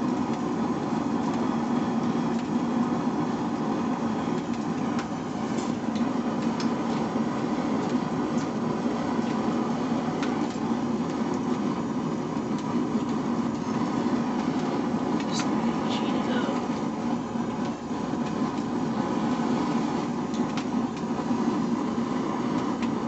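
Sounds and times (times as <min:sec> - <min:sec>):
forge rushing noise: 0:00.0 - 0:23.0.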